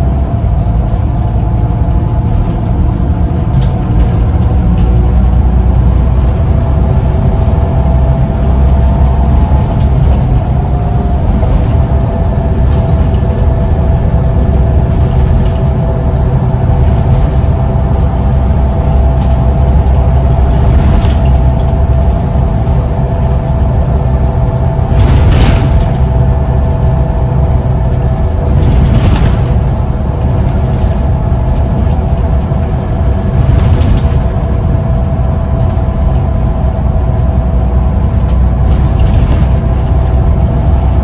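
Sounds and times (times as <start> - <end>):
bus engine and road rumble: 0.0 - 41.0
constant whine: 0.0 - 41.0.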